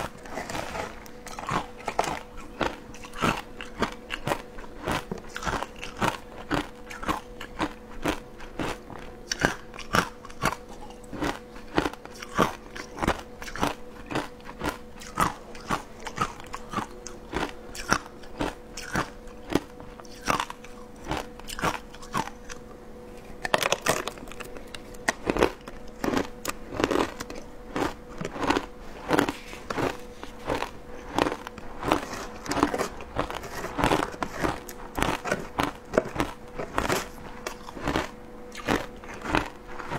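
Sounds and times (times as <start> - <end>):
crunching and chewing ice: 0.0 - 22.7, 23.3 - 39.9.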